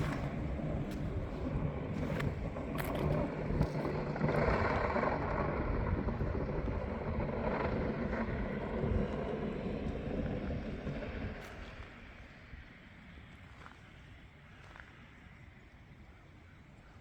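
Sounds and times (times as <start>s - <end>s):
steady rush of noise: 0.0s - 16.1s.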